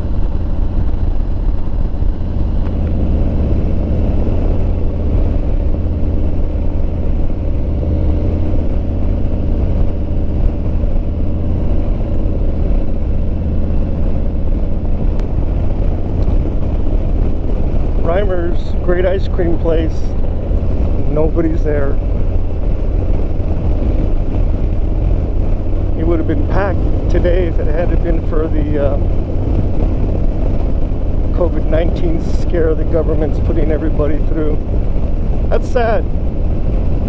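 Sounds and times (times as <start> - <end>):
motorcycle engine running: 0.0 - 37.0
wind rumble: 0.0 - 37.0.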